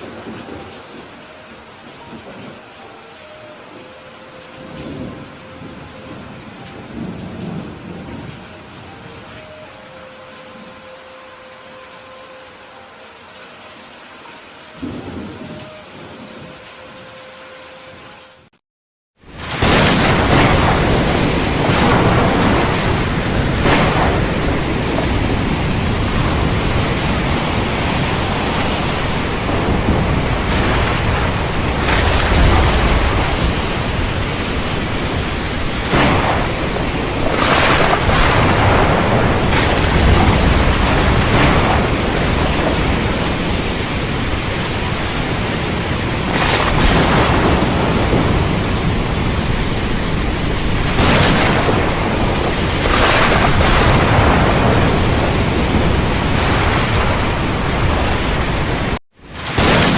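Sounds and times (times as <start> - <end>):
thunder rumbling: 0.0 - 3.1, 3.7 - 10.7, 14.8 - 16.7, 19.3 - 59.9
heavy rain: 0.0 - 18.6, 19.2 - 59.9.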